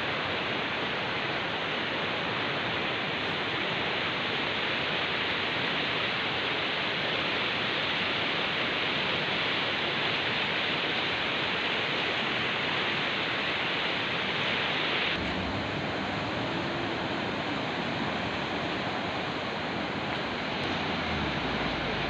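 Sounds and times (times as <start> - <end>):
fast mountain river rushing: 0.0 - 22.0.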